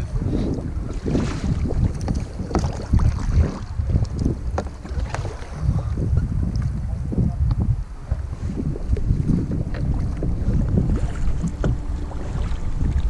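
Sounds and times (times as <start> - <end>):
paddles splashing in water: 0.0 - 6.7, 8.0 - 13.0
wind rumble on microphone: 0.0 - 13.0.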